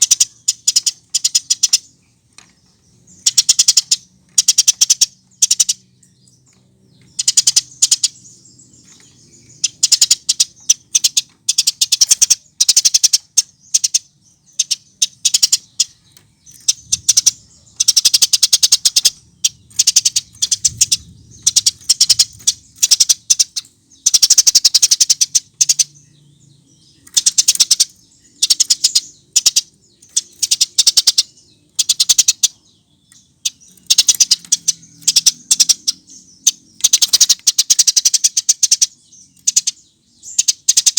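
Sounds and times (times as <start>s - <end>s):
sparrow chirping: 0.0s - 40.9s.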